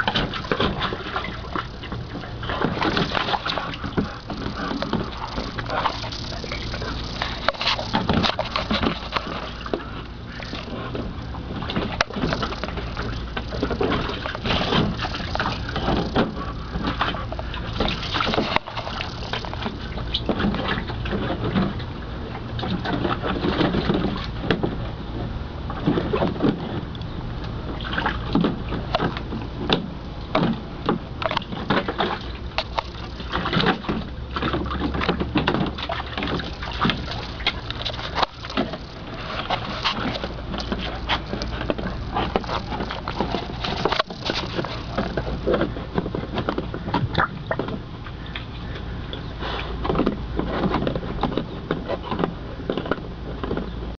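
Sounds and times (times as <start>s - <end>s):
puppy splashing and lapping water: 0.0s - 53.8s.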